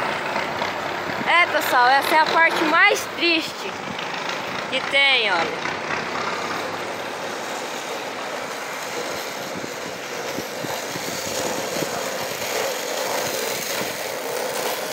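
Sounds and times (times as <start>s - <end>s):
street traffic: 0.0s - 14.9s.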